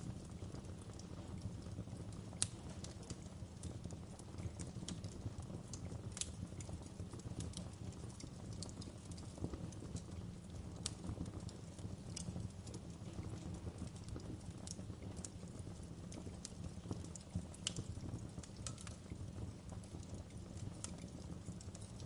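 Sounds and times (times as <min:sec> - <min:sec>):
fire crackling and popping: 0:00.0 - 0:22.0
wood fire flames rumbling: 0:00.0 - 0:22.0.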